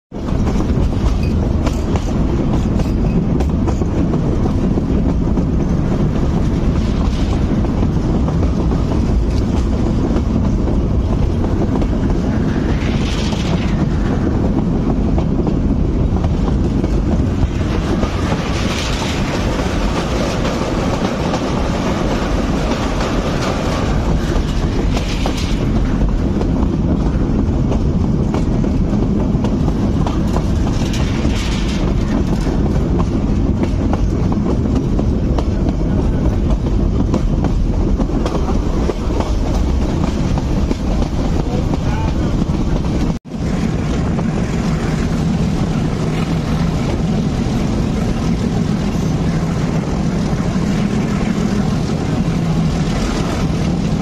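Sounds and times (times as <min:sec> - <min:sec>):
train wheels rumbling on rails: 0:00.1 - 0:54.0.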